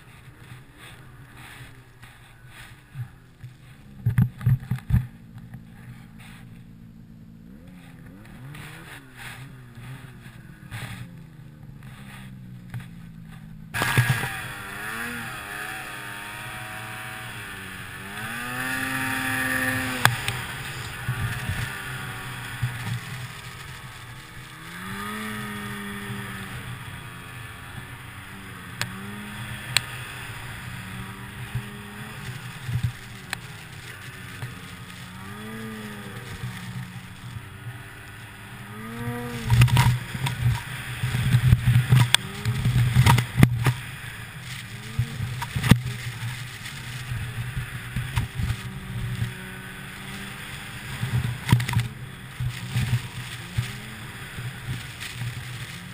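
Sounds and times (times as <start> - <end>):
rough thumps and buffeting: 0.0 - 55.9
snowmobile engine revving: 0.0 - 55.9.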